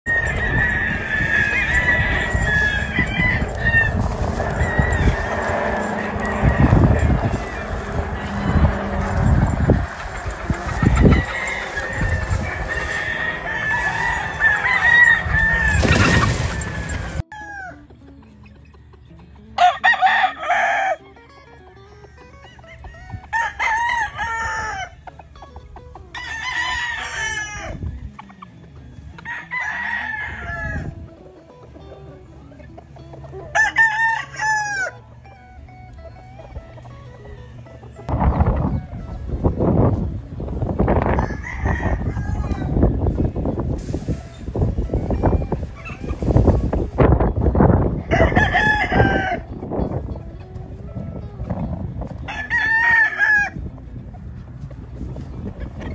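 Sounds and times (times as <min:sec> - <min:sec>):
roosters crowing: 0:00.0 - 0:18.2, 0:19.3 - 0:55.9.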